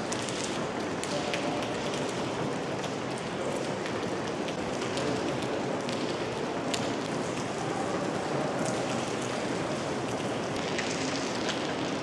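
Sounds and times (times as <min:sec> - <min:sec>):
rain on a roof: 0:00.0 - 0:12.0.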